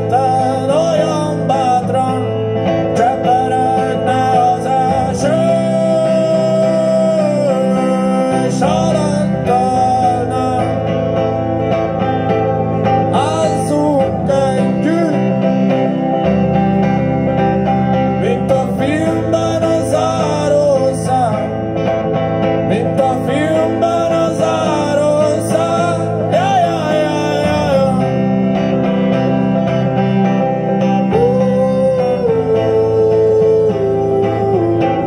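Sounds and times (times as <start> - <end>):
electric guitar with bending notes: 0.0 - 35.0.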